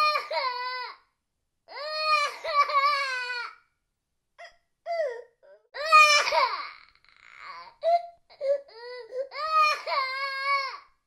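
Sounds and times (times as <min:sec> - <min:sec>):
baby crying: 0:00.0 - 0:01.0, 0:01.7 - 0:03.6, 0:04.9 - 0:10.9.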